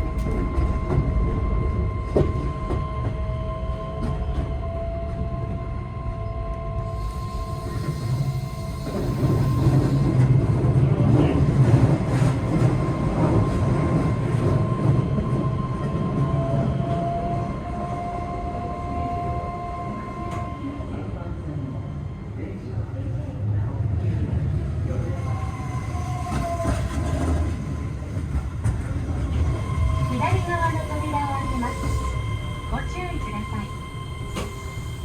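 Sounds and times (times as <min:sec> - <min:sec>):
train wheel rumble: 0:00.0 - 0:35.0
train whine: 0:00.0 - 0:35.0.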